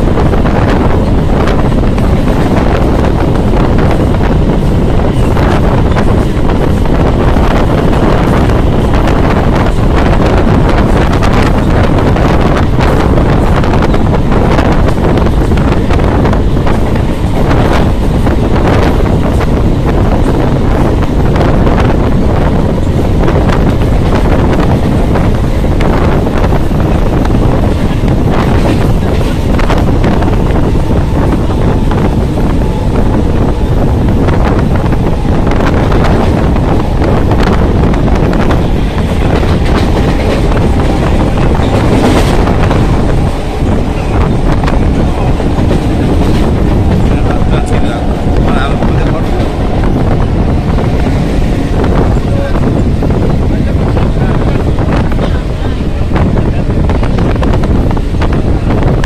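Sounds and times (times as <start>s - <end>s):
train running on track: 0.0s - 59.0s
wind buffeting microphone: 0.0s - 59.0s.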